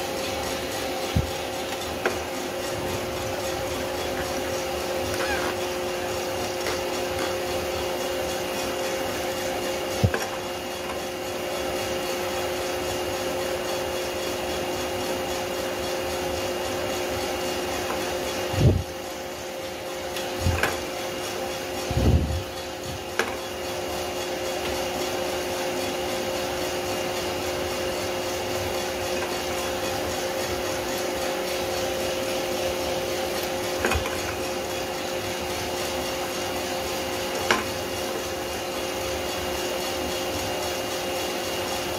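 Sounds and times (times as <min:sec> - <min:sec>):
motor and fan humming: 0:00.0 - 0:41.9.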